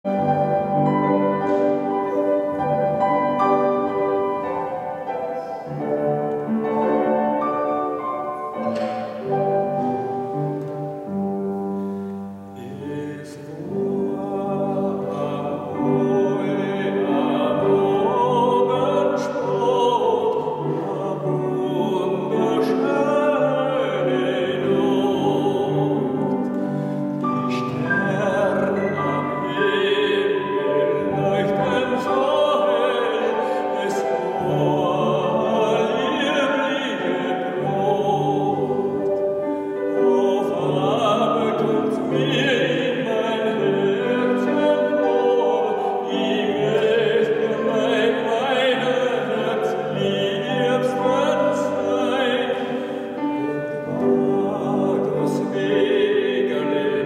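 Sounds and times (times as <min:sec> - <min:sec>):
grand piano playing: 0:00.0 - 0:57.0
man singing with vibrato: 0:00.0 - 0:57.0.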